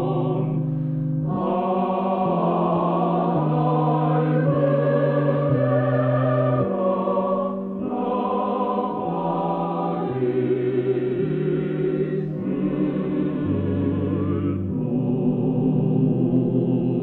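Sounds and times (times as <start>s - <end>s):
choir singing slow chords: 0.0s - 17.0s.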